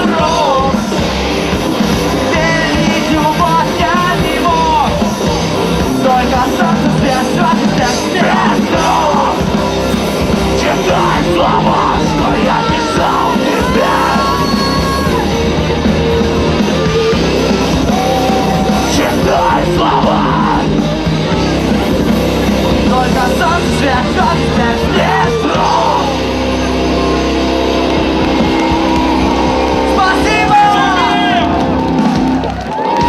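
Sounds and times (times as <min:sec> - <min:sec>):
singer yelling and singing: 0:00.0 - 0:27.5, 0:28.1 - 0:32.1
live rock band playing: 0:00.0 - 0:33.0.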